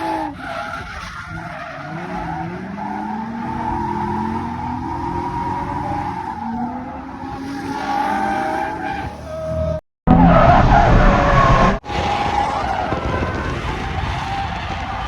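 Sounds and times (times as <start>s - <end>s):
tyres squealing and skidding: 0.0s - 15.0s.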